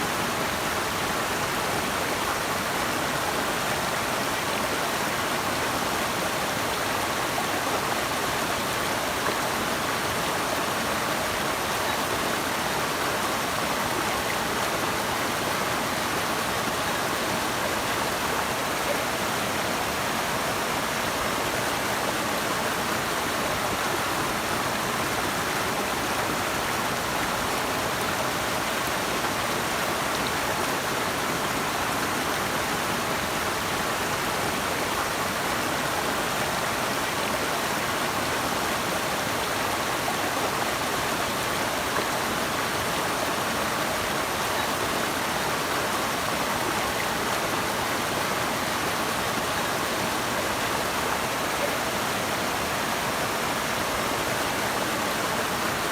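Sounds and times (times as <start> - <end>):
running water: 0.0 - 55.9.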